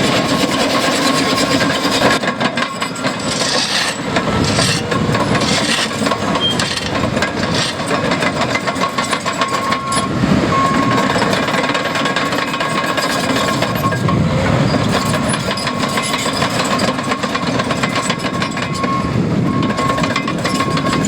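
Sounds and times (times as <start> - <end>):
diesel engine running: 0.0 - 21.0
steel tracks rattling and clanking: 0.0 - 21.0.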